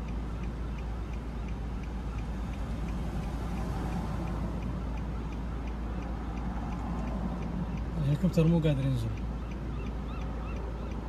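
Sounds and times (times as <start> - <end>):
light regular ticking: 0.0 - 11.0.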